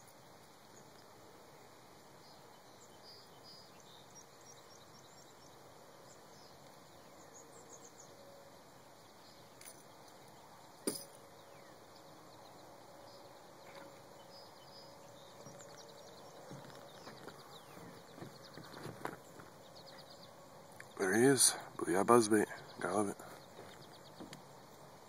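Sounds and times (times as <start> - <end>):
faint steady hum: 0.0 - 25.0
small birds chirping: 0.0 - 25.0.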